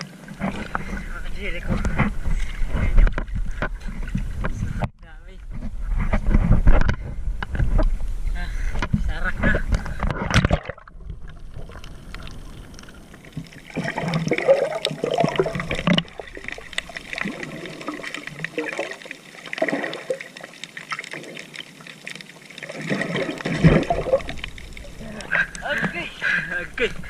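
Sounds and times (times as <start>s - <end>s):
sea water sloshing and splashing: 0.0s - 4.9s, 9.4s - 27.0s.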